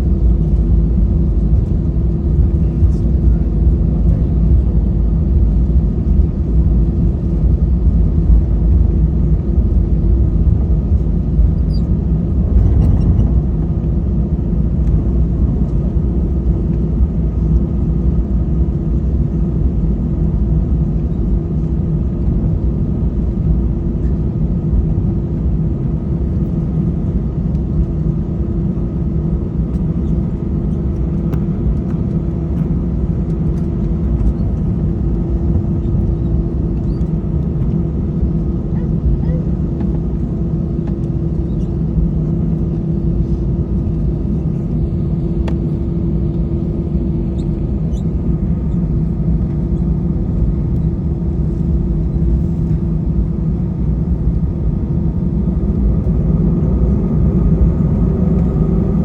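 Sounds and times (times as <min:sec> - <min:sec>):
aircraft cabin rumble: 0:00.0 - 0:59.0
engine hum: 0:00.0 - 0:59.0.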